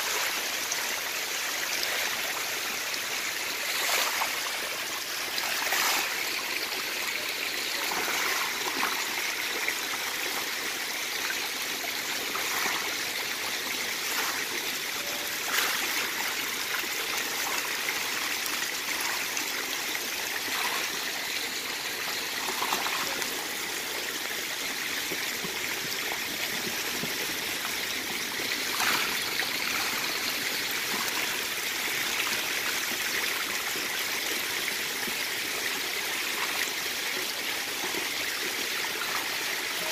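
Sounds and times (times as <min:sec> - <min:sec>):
water pouring from pipe: 0:00.0 - 0:33.9.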